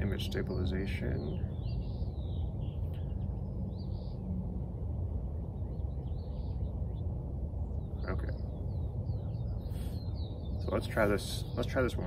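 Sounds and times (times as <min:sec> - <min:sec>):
birds chirping: 0:00.0 - 0:12.0
low background rumble: 0:00.0 - 0:12.0.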